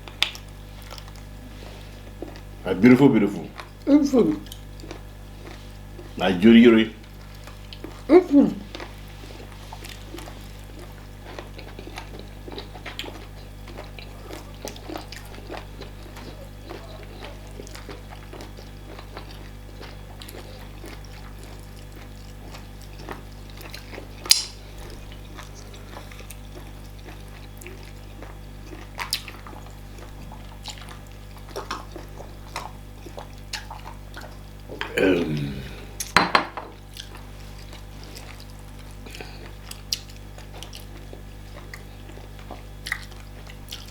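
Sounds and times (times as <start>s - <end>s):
wet soup eating sounds: 0.0s - 43.9s.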